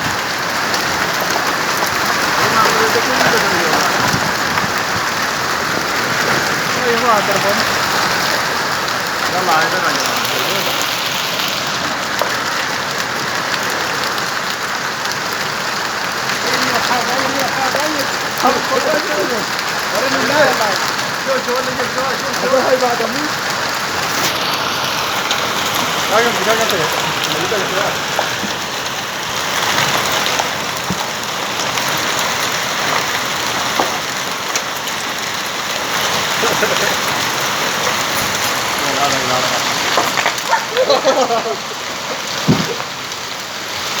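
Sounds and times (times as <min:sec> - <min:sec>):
heavy rain: 0:00.0 - 0:44.0
raindrops ticking on a surface: 0:00.0 - 0:44.0.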